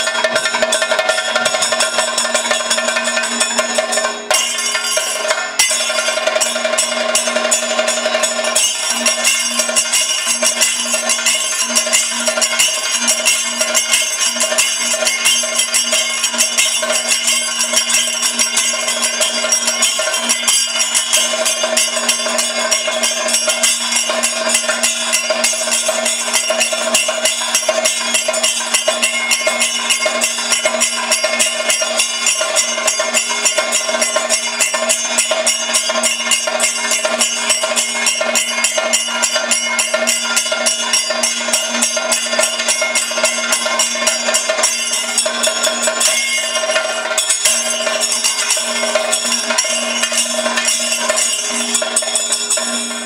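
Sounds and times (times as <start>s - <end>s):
rapid drumming: 0.0s - 53.0s
small hand cymbals: 0.0s - 53.0s.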